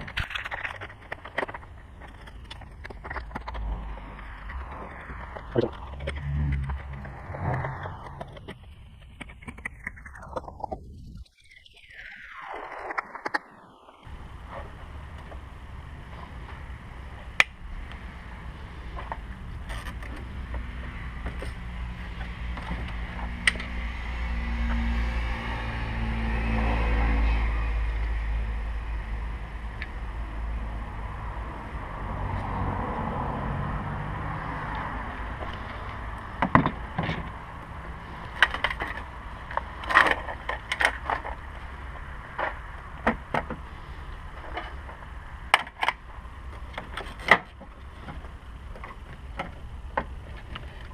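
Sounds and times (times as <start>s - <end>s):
low rumble: 0.0s - 46.8s.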